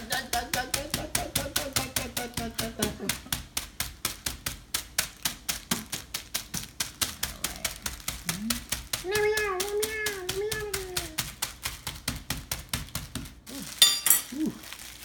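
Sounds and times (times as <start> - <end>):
candy bars being beaten: 0.0 - 15.0.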